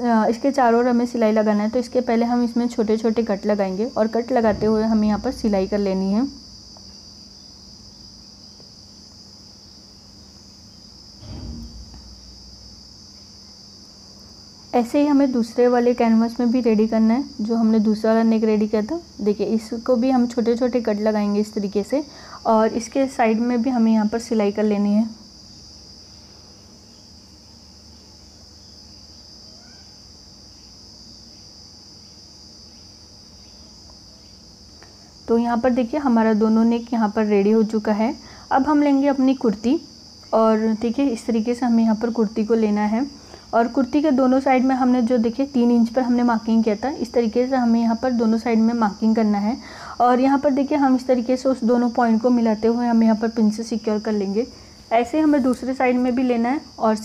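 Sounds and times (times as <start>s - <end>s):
faint low hum: 0.0s - 57.0s
high-pitched insect trill: 0.0s - 57.0s.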